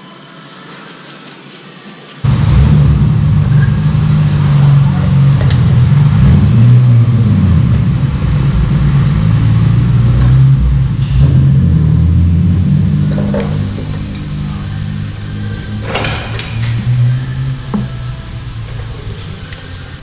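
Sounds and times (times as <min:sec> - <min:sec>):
car engine revving: 0:02.2 - 0:20.0.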